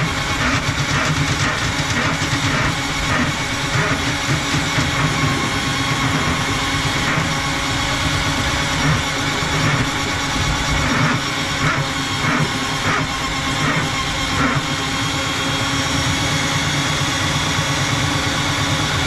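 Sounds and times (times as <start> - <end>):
motor running: 0.0 - 19.0.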